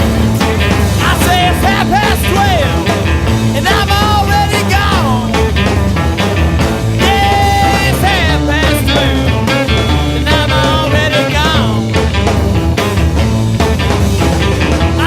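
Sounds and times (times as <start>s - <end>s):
sliding melody line: 0.0s - 13.0s
rock music with bass and guitar: 0.0s - 15.0s.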